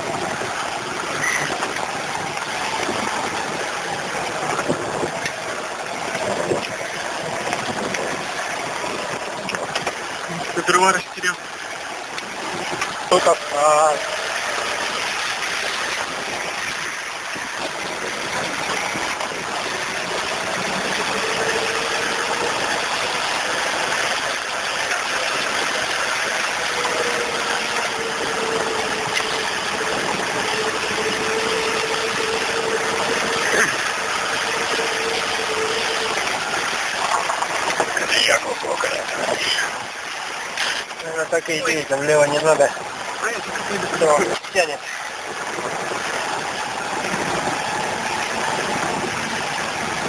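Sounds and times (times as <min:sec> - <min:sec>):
vehicle engine running: 0:00.0 - 0:44.0
continuous rushing noise: 0:00.0 - 0:50.0
held whine: 0:00.0 - 0:50.0.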